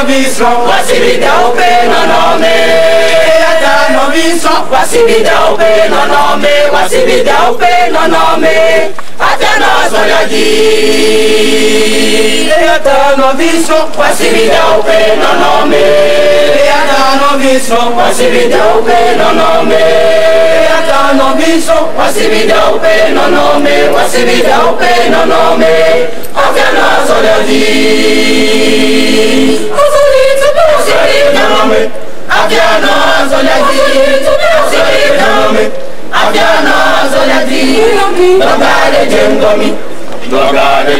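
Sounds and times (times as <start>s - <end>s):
mixed choir singing: 0.0s - 40.9s.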